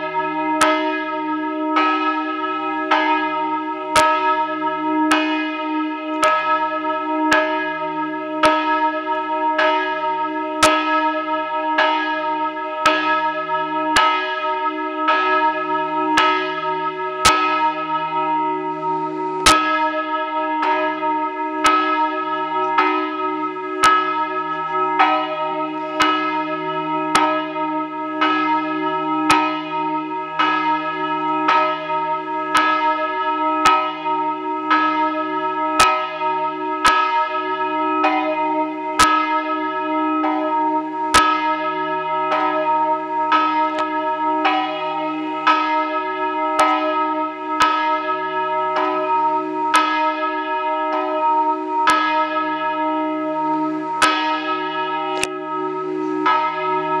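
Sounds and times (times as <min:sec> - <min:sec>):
large church bell ringing: 0:00.0 - 0:57.0.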